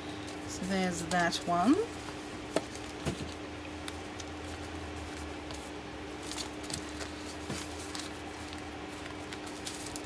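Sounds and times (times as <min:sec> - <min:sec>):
steady low hum: 0:00.0 - 0:10.0
paper envelopes rustling: 0:00.1 - 0:10.0.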